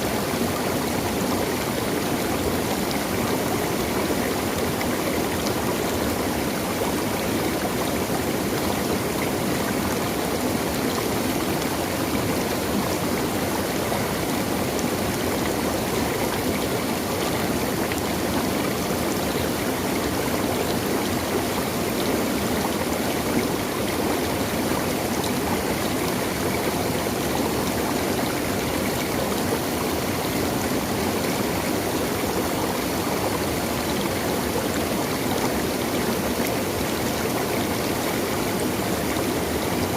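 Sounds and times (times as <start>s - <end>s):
stream rushing and gurgling: 0.0s - 39.9s.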